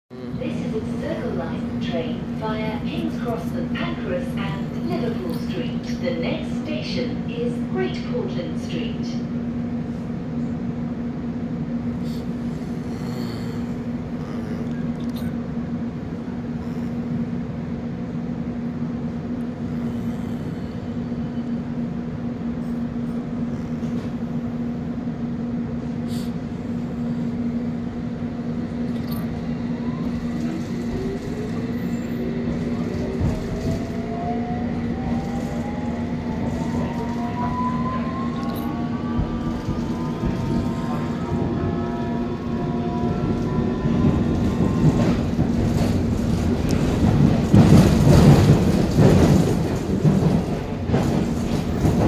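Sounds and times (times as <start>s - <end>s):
constant low hum: 0.1s - 43.5s
train rumbling: 0.1s - 52.0s.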